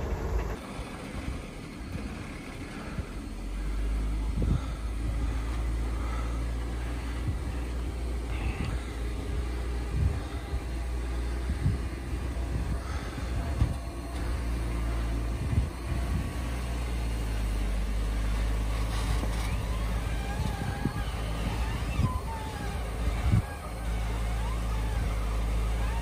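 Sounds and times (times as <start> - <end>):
car engine running under load: 0.0 - 26.0.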